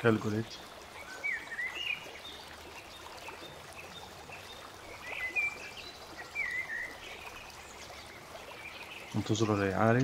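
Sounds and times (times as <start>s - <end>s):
bird chirping: 0.4s - 9.8s.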